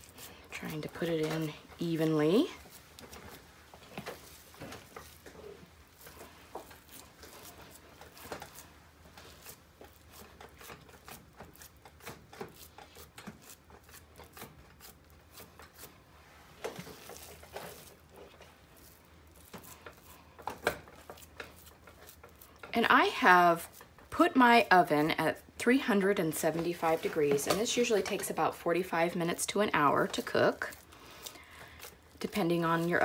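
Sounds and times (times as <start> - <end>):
hands squishing ground meat: 0.0 - 24.6, 29.1 - 33.0.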